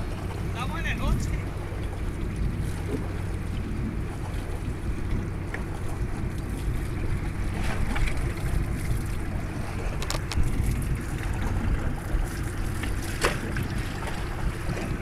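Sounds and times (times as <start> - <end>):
boat engine humming: 0.0 - 15.0
water washing past hull: 0.0 - 15.0
wind buffeting microphone: 0.0 - 15.0.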